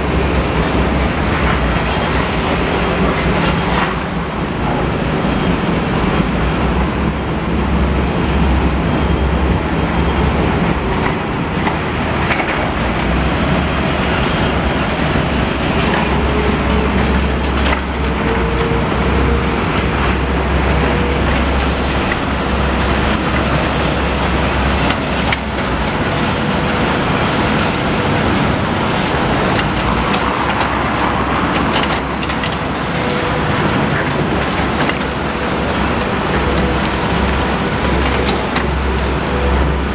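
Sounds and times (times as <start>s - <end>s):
vehicle running rumble: 0.0s - 39.9s.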